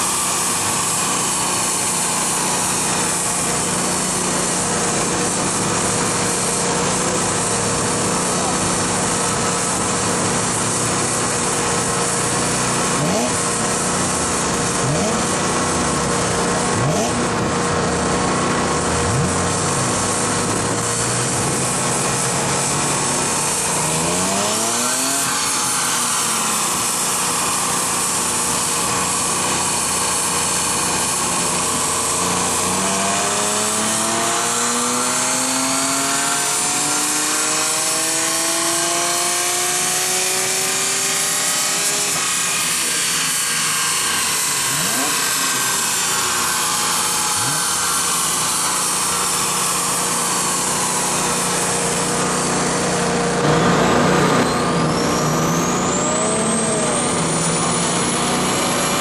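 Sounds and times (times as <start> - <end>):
car engine revving on dyno: 0.0 - 59.0
loud rushing noise: 0.0 - 59.0.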